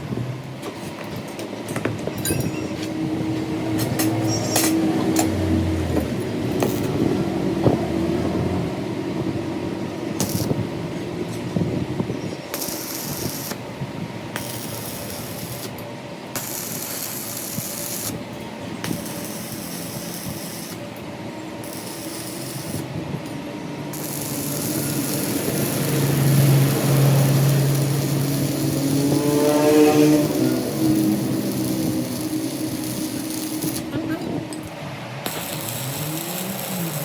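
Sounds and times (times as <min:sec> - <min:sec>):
workshop power tools running: 0:00.5 - 0:37.0
low motor hum: 0:01.9 - 0:16.3, 0:17.1 - 0:37.0
high-pitched whine: 0:02.0 - 0:13.7, 0:14.4 - 0:37.0.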